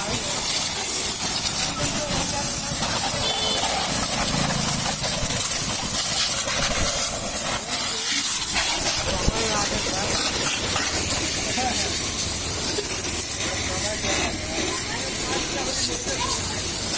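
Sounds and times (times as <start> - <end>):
pressure washer jet hissing: 0.0 - 16.9.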